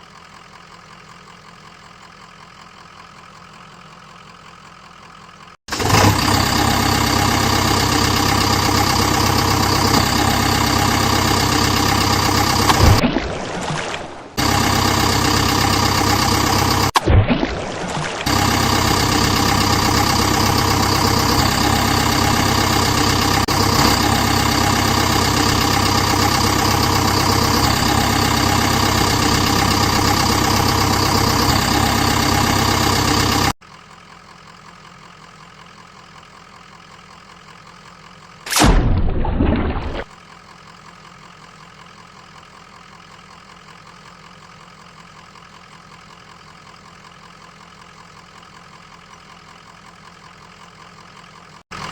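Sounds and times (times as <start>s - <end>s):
quiet engine idle: 0.0s - 13.5s, 14.1s - 17.0s, 17.8s - 51.9s
vehicle engine running: 0.0s - 51.9s.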